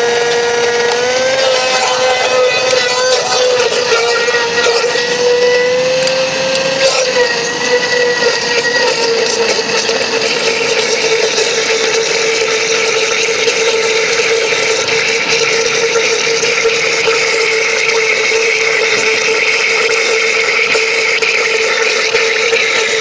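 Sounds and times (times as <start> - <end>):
blender motor whine: 0.0 - 23.0.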